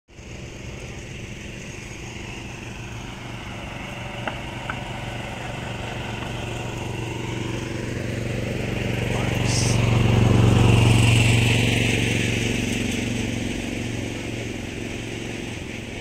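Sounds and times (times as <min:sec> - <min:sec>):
small engine humming: 0:00.1 - 0:16.0.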